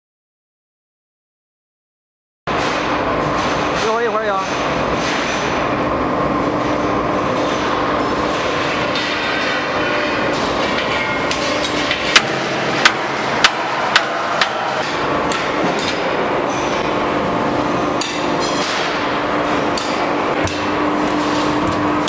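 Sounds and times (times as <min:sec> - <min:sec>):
factory machinery hum: 0:02.5 - 0:22.0.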